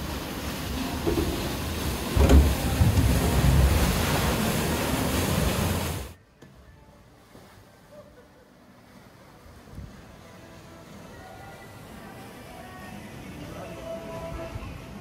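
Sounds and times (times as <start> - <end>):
water rushing and splashing: 0.0 - 6.2, 8.5 - 15.0.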